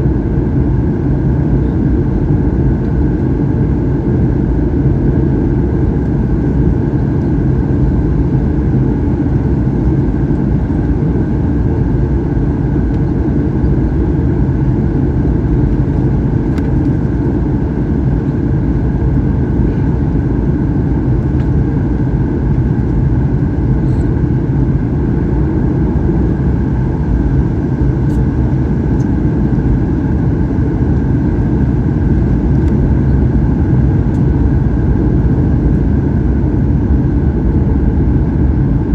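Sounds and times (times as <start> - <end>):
airplane cabin engine drone: 0.0 - 38.9.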